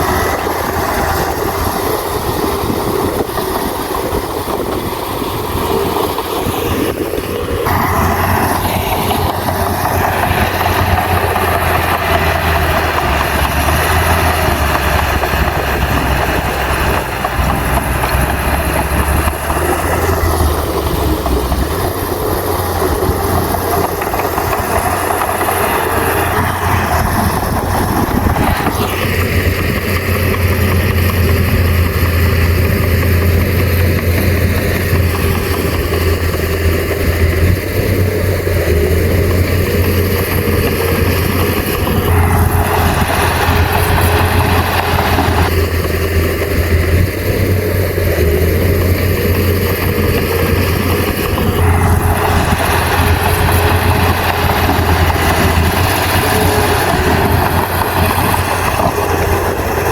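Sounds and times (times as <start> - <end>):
broad rushing noise: 0.0 - 59.9
bulldozer diesel engine humming: 0.0 - 59.9.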